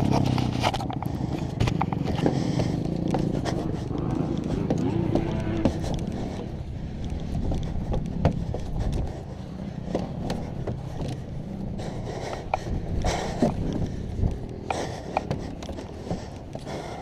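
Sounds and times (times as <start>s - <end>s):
footsteps on wooden stairs: 0.0s - 17.0s.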